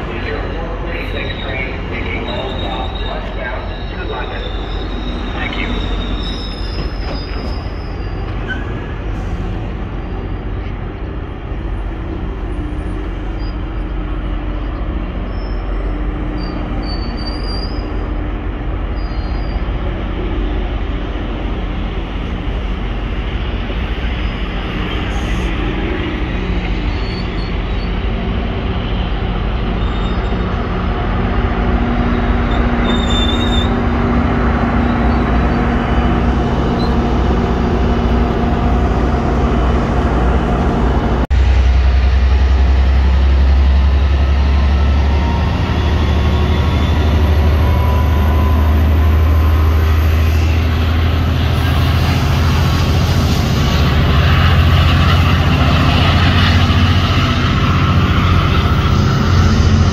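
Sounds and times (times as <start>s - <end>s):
diesel locomotive engine: 0.0s - 59.9s
train rolling past: 0.0s - 59.9s.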